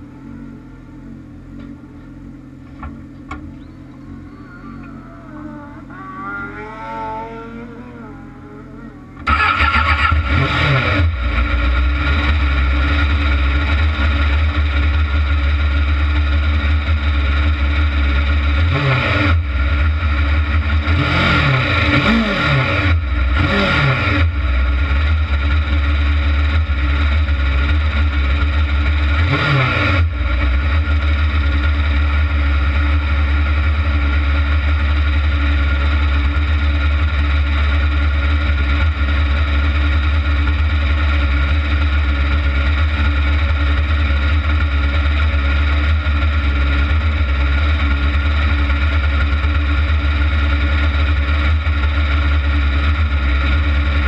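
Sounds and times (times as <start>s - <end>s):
buggy engine idling and revving: 0.0s - 54.0s.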